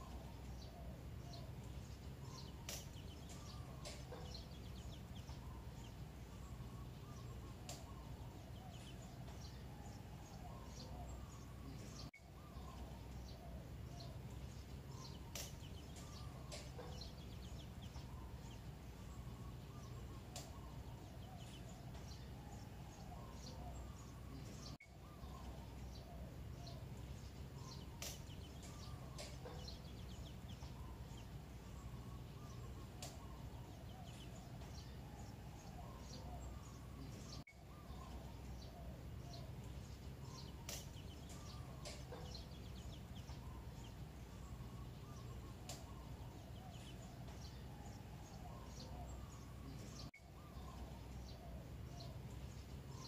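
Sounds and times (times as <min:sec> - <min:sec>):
birds chirping and warbling: 0:00.0 - 0:53.0
low steady rumble: 0:00.0 - 0:53.0.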